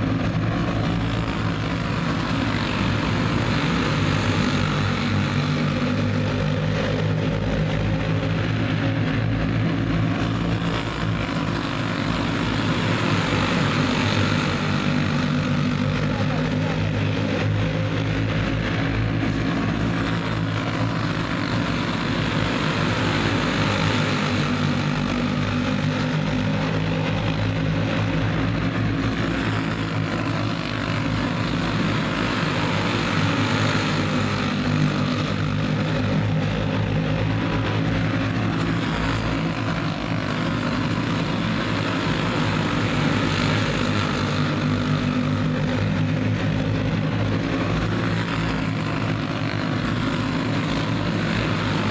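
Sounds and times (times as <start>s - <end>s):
racing kart engines droning: 0.0s - 51.9s.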